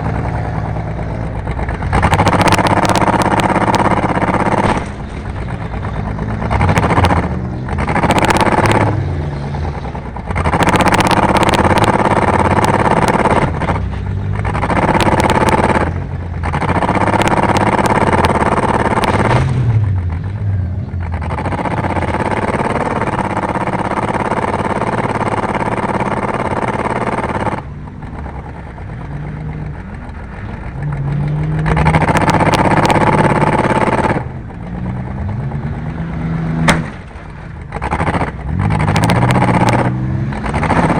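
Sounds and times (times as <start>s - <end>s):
car engine revving hard: 0.0s - 29.6s, 30.7s - 36.8s, 37.7s - 40.9s.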